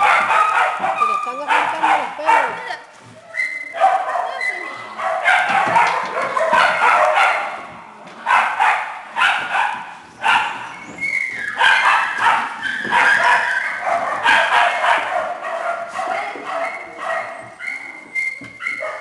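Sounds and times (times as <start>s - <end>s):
small dogs barking: 0.0s - 2.8s, 3.6s - 19.0s.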